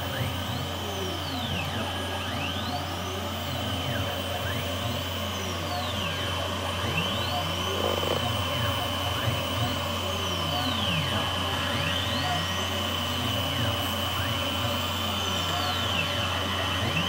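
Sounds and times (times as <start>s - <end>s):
milling machine whine: 0.0s - 17.0s.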